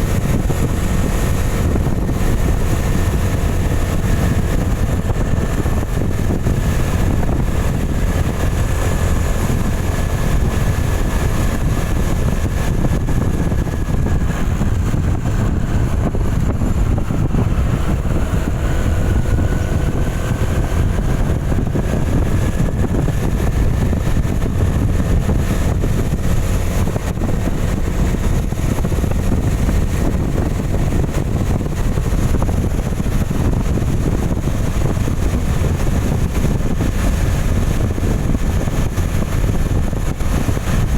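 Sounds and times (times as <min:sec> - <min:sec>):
engine and tyres on wet road: 0:00.0 - 0:40.9.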